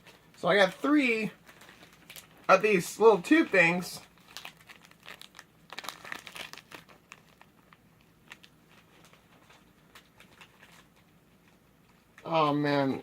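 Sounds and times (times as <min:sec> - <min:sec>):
plastic wrapper crinkling: 0:00.0 - 0:12.6.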